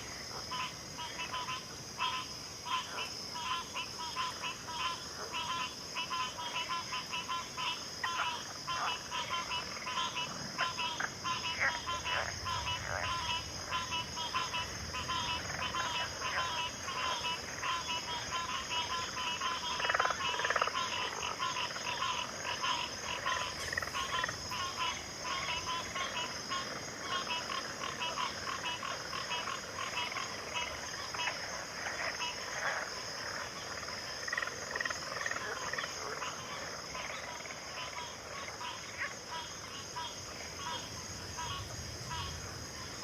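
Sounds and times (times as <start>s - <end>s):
frogs calling in pulsed trills: 0.0s - 43.0s.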